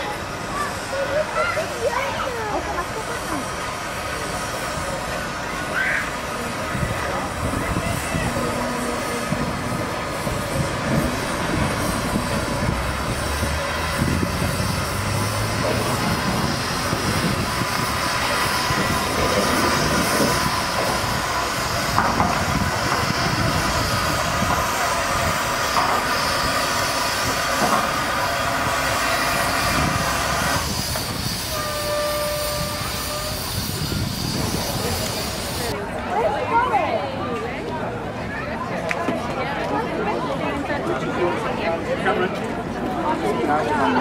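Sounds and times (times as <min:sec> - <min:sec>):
steam hissing: 0:00.0 - 0:35.8
train wheels on rails: 0:00.0 - 0:44.0.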